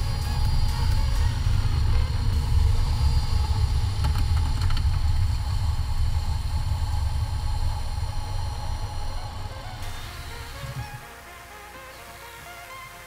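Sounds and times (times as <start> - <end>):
car engine rumbling: 0.0 - 11.1.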